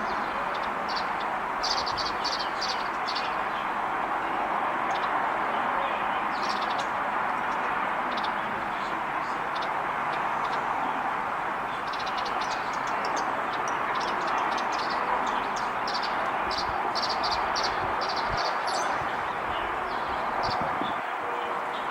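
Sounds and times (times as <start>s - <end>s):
small songbirds chirping: 0.0s - 21.0s
steady rushing noise: 0.0s - 21.9s.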